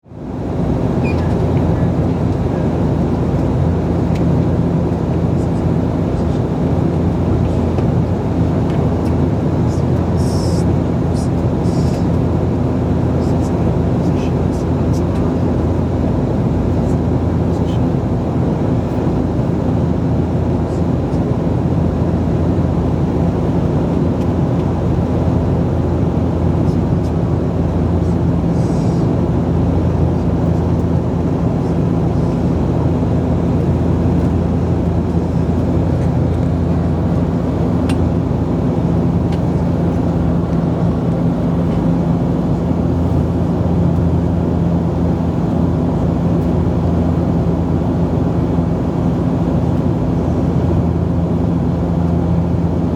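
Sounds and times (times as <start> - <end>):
airplane cabin drone: 0.0 - 52.9.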